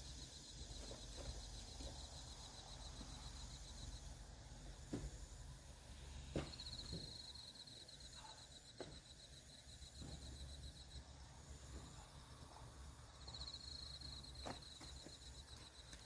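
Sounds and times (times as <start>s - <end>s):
faint insect trill: 0.0s - 16.0s.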